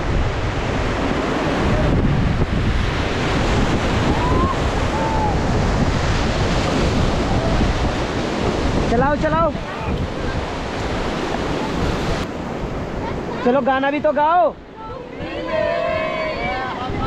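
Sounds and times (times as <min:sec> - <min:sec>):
whitewater rushing: 0:00.0 - 0:17.0
wind buffeting microphone: 0:00.0 - 0:17.0.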